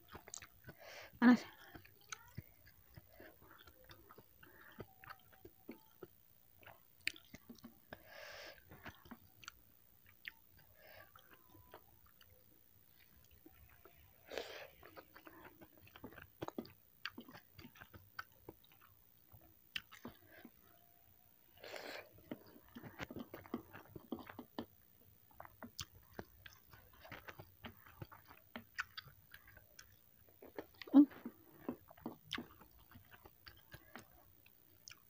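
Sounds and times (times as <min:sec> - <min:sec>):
person chewing noodles: 0:00.0 - 0:35.0.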